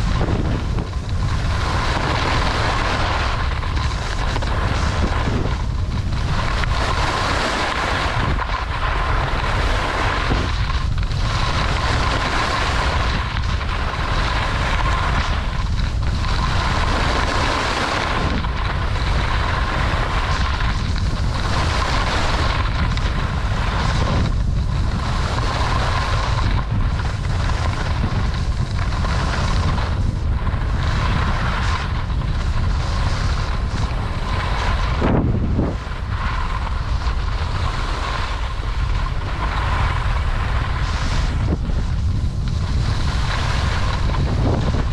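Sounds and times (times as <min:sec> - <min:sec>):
skis scraping on snow: 0:00.0 - 0:44.9
wind rushing over microphone: 0:00.0 - 0:44.9.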